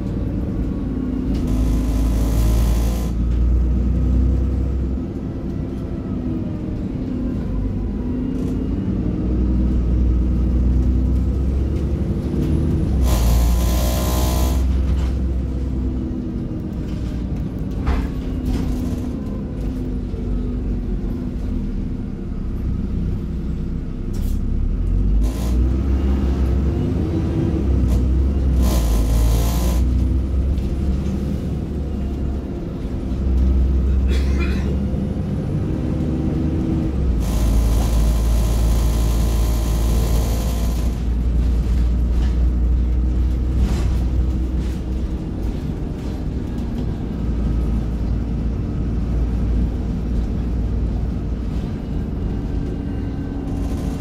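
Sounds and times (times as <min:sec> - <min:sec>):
bus engine changing gear: 0:00.0 - 0:54.0.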